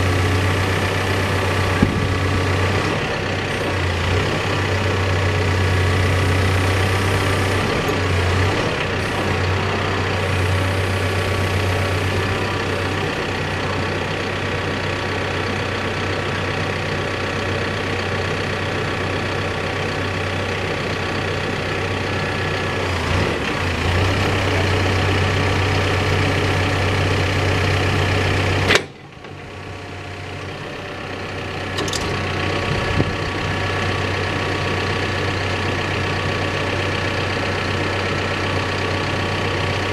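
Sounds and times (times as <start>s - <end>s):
diesel engine low hum: 0.0s - 39.9s.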